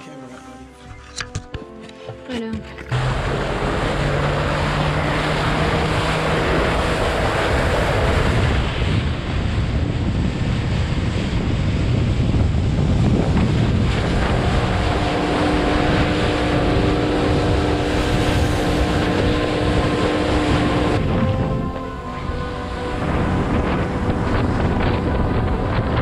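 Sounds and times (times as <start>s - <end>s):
outboard motor: 2.2s - 26.0s
water rushing along hull: 2.7s - 26.0s
wind buffeting microphone: 3.0s - 26.0s.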